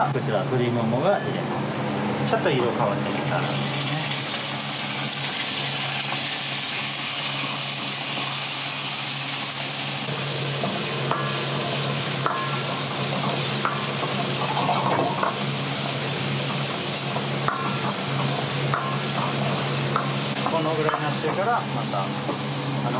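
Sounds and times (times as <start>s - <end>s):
meat sizzling in a wok: 3.1s - 22.9s.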